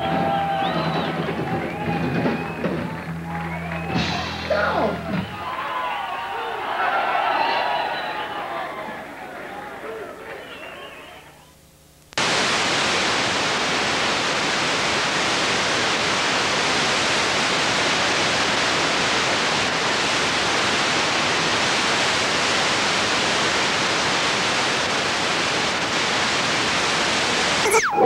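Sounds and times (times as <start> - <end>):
videotape static hiss: 0.0 - 28.0.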